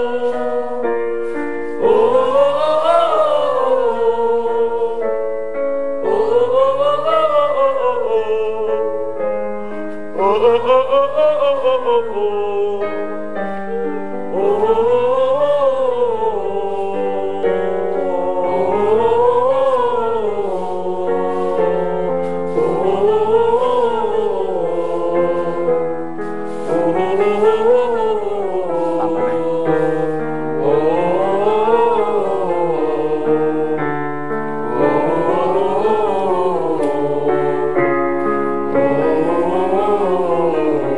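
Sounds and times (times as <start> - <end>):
group of singers warming up: 0.0 - 40.9.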